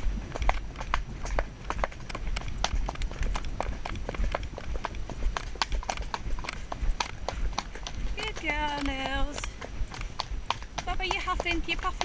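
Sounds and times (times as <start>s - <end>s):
horse hooves on stony track: 0.0s - 12.0s
low rumble: 0.0s - 12.0s.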